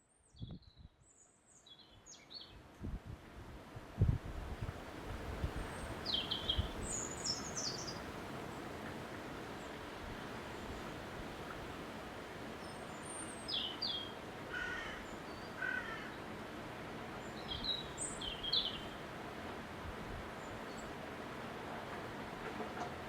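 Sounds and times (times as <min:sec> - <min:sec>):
rushing wind: 0:02.6 - 0:14.6, 0:16.3 - 0:23.0.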